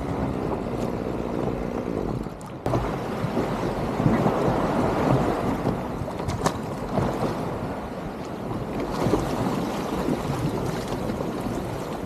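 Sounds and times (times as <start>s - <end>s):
small waves washing on shore: 0.0s - 12.0s
wind buffeting microphone: 0.0s - 12.0s.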